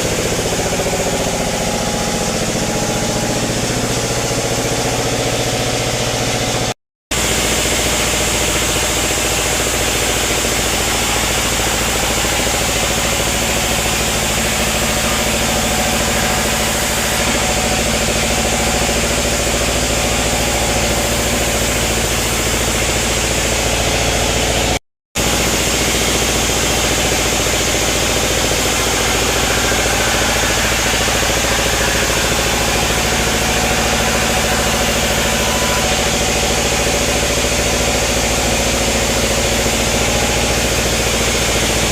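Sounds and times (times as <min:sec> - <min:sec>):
sawmill machinery running: 0:00.0 - 0:41.9.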